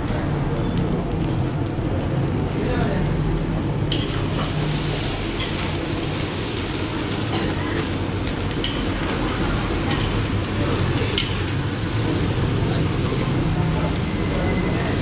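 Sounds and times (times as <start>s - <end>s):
wok burner roar: 0.0s - 15.0s.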